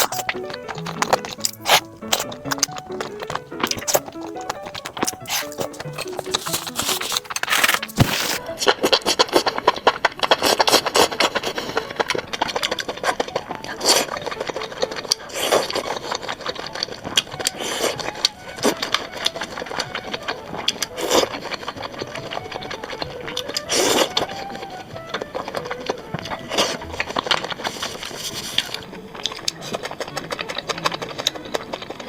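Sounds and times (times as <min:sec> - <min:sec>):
close chewing sounds: 0:00.0 - 0:32.0
small clicks and crackles: 0:00.0 - 0:32.0.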